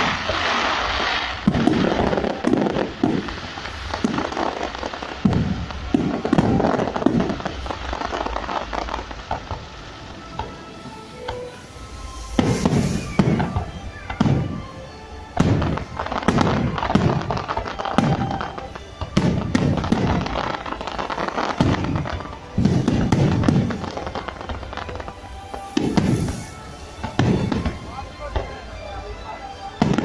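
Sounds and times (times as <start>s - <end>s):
fireworks booming: 0.0s - 29.1s, 29.8s - 30.0s
fireworks crackling: 0.0s - 30.0s
music playing: 0.0s - 30.0s.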